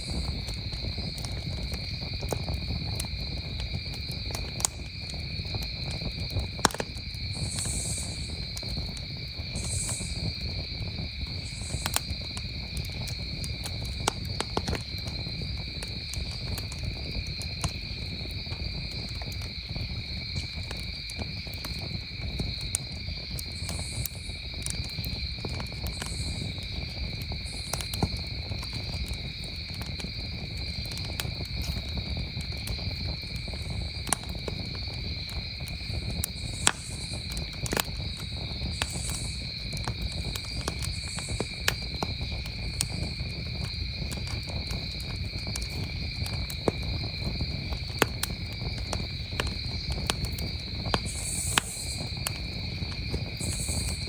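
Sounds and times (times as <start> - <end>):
campfire crackling and popping: 0.0 - 54.0
crickets chirping: 0.0 - 54.0.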